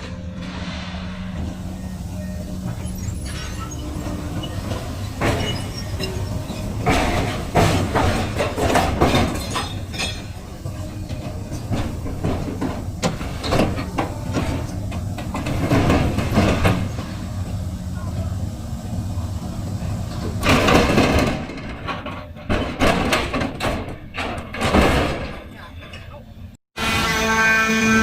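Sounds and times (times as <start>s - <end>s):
scrap metal creaking and clanking: 0.0s - 17.6s, 20.0s - 26.2s
hydraulic power unit hum: 0.0s - 26.6s.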